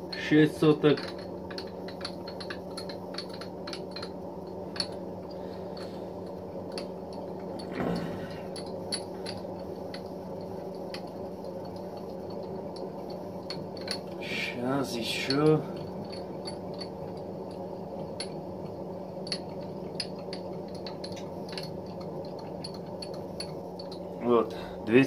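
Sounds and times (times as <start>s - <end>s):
machine low hum: 0.0s - 25.0s.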